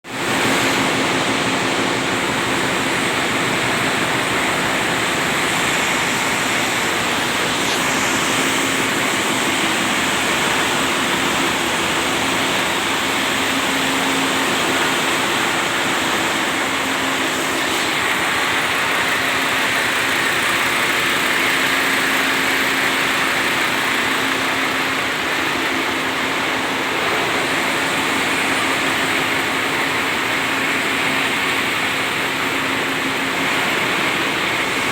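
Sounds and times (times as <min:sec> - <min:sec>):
diesel engines running: 0:00.2 - 0:34.9.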